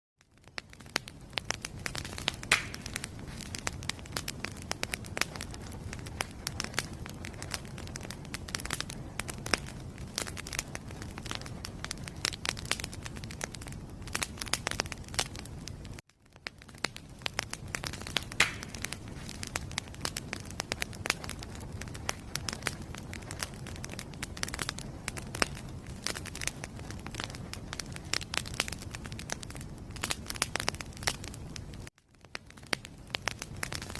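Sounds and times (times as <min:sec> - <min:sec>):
low rumble of flames: 0:00.2 - 0:33.9
wood fire crackling and popping: 0:00.2 - 0:33.9.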